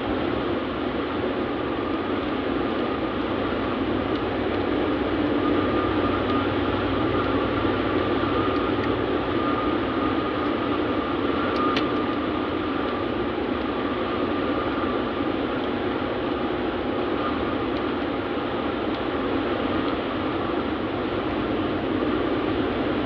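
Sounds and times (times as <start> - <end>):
faint steady whine: 0.0 - 23.0
truck engine hum: 0.0 - 23.0.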